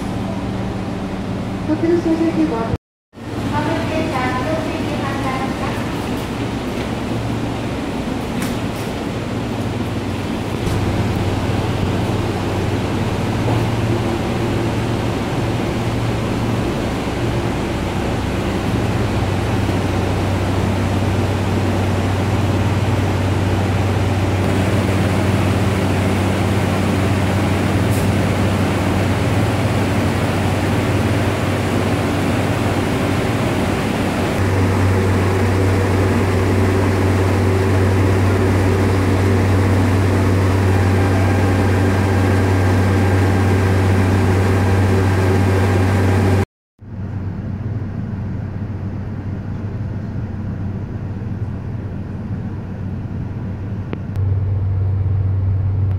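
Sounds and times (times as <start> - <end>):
train mechanical hum: 0.0 - 55.9.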